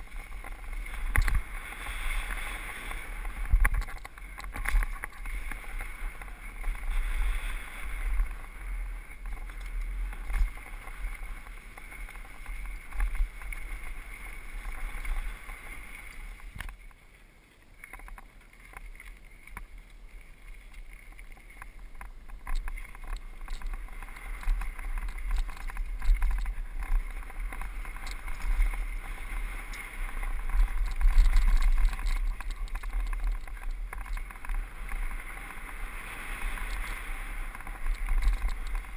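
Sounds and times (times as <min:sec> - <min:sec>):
bike frame rattling and clicking: 0:00.0 - 0:16.9, 0:20.6 - 0:38.9
wind rumble on microphone: 0:00.0 - 0:17.1, 0:17.7 - 0:38.9
bike tyres on dirt: 0:00.0 - 0:38.9.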